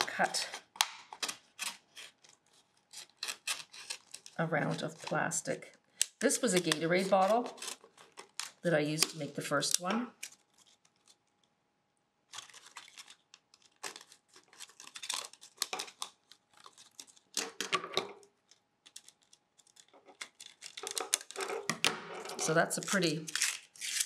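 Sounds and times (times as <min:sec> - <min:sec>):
plastic bottle crinkling: 0:00.0 - 0:11.4, 0:12.3 - 0:24.0.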